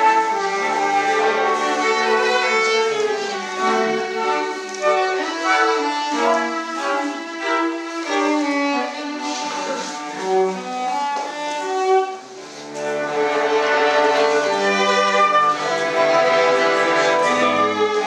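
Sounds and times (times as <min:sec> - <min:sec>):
violins playing tango music: 0:00.0 - 0:18.0.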